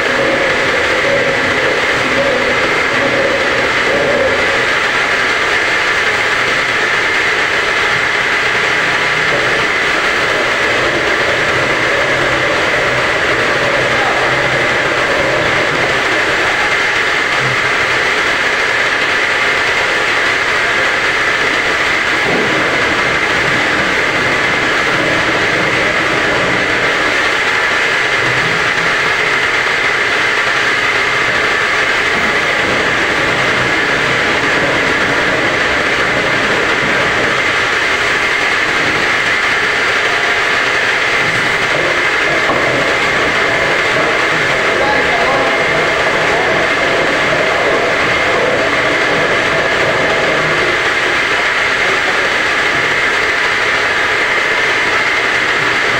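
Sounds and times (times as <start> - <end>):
high whine over a hiss: 0.0 - 55.9
washing machine running: 0.0 - 55.9.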